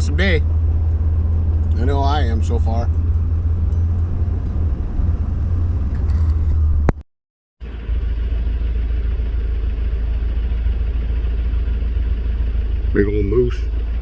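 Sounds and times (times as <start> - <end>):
vehicle engine and tyres rumbling: 0.0 - 7.0, 7.6 - 14.0.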